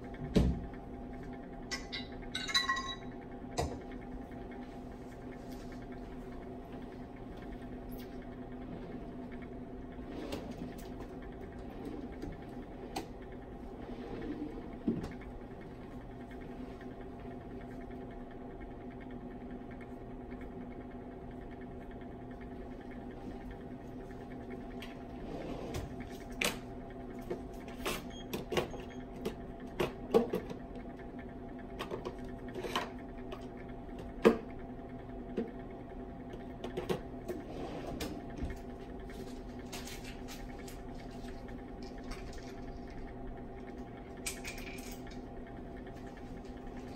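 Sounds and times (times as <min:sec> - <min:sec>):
hot plate hum: 0:00.0 - 0:46.9.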